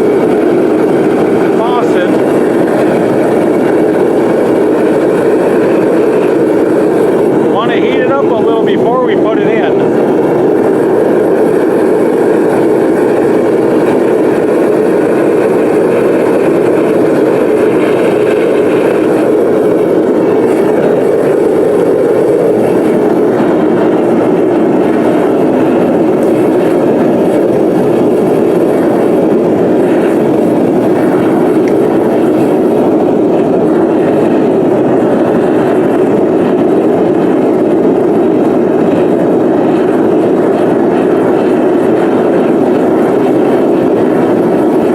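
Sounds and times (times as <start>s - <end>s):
furnace burner roaring: 0.0s - 44.9s.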